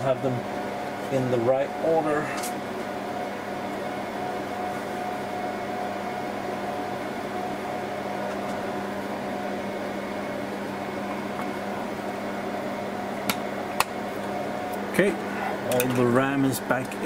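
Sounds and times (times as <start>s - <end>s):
cooling fans humming: 0.0s - 17.0s.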